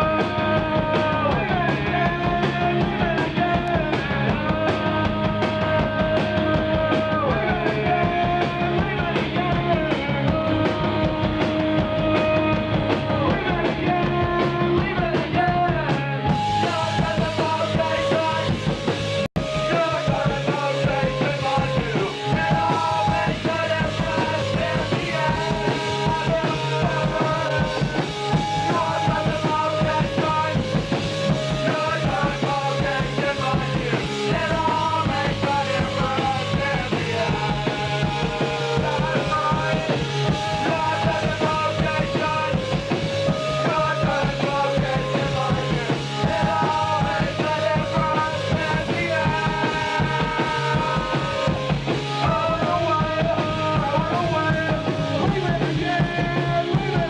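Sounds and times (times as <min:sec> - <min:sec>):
punk rock band playing live: 0:00.0 - 0:57.0.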